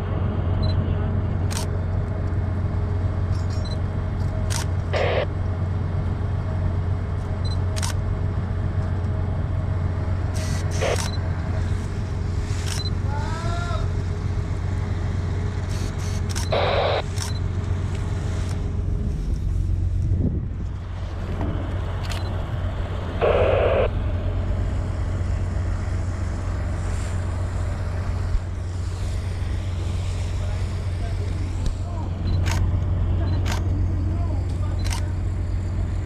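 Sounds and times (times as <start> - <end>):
low machinery hum: 0.0 - 36.0.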